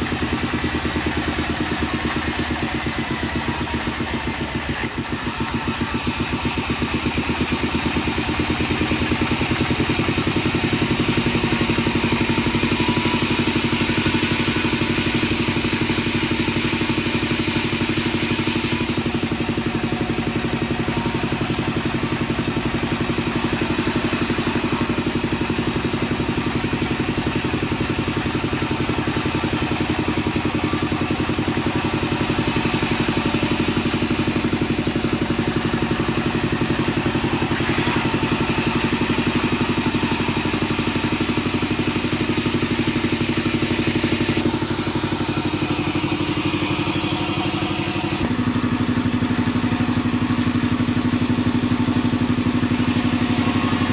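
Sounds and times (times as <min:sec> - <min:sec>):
band saw machinery humming: 0:00.0 - 0:51.0, 0:52.0 - 0:53.9.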